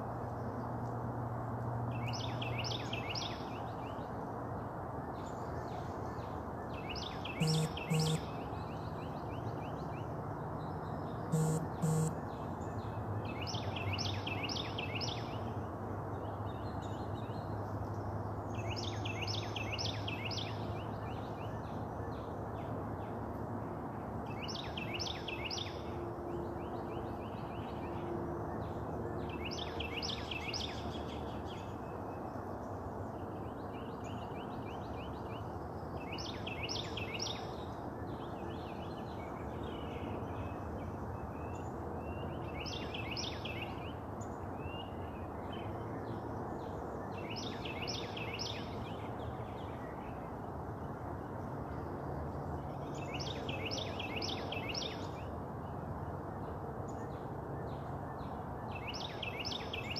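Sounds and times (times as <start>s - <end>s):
outdoor background hum: 5.2s - 59.9s.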